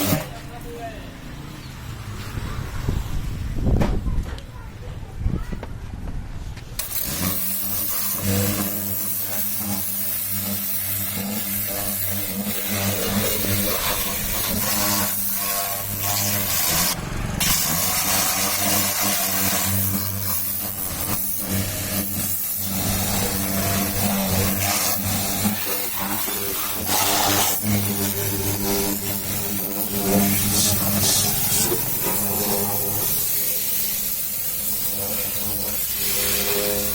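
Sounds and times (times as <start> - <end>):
pressure washer motor hum: 0.0 - 2.1, 6.8 - 36.9
water jet hissing: 6.8 - 36.9.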